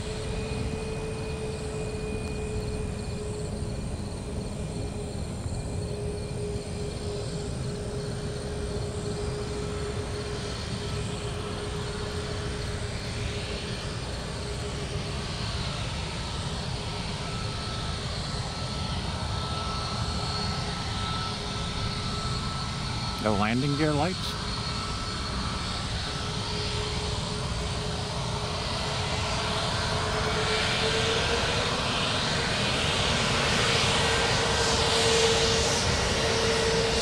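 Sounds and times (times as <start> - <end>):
higher jet whine: 0.0 - 37.0
jet engine rumble and whine: 0.0 - 37.0.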